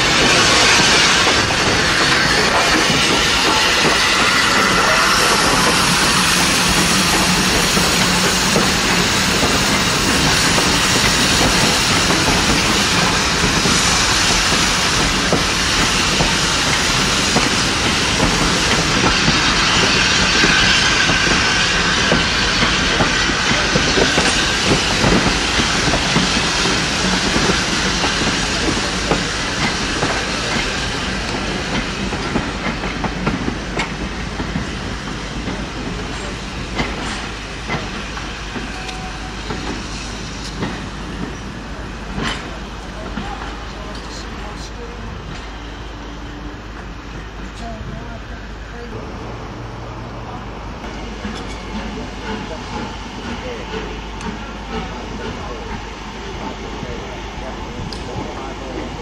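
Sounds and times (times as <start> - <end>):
steam train rushing steam: 0.0 - 59.0.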